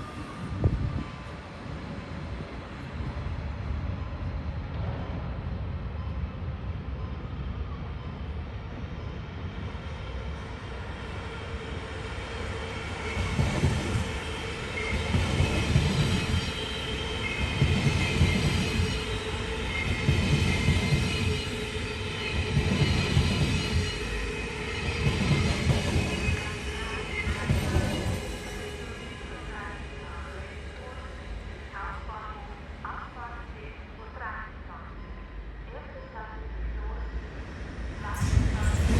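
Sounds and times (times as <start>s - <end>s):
train rumbling on tracks: 0.0s - 38.9s.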